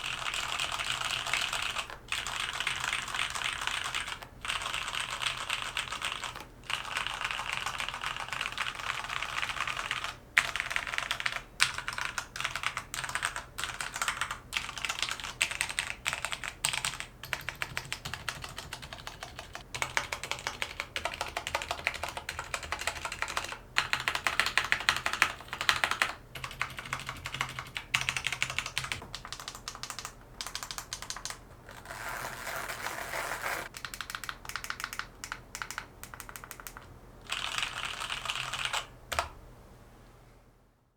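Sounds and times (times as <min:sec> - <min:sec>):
fast typing on mechanical keyboard: 0:00.0 - 0:32.1, 0:32.7 - 0:39.3.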